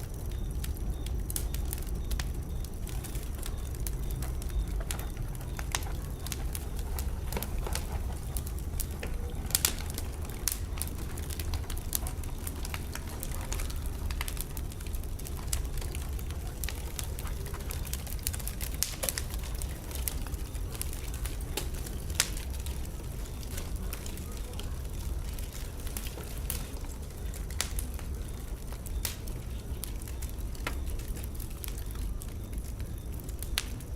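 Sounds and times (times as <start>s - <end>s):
low rush of flames: 0.0s - 33.9s
wood fire crackling and popping: 0.0s - 33.9s.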